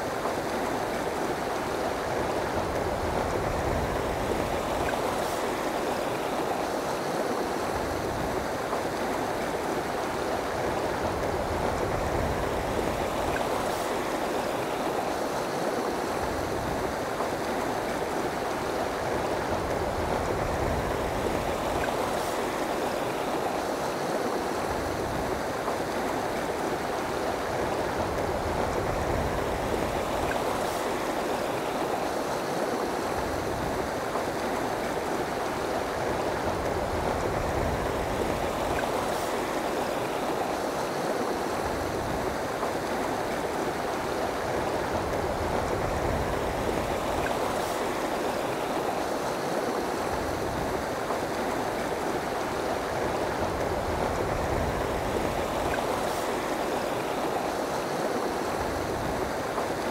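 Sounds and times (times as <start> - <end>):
rocky river rushing: 0.0 - 59.9.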